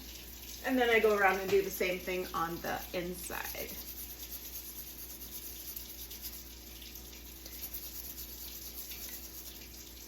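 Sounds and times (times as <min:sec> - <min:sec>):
kitchen tap running: 0:00.0 - 0:10.0.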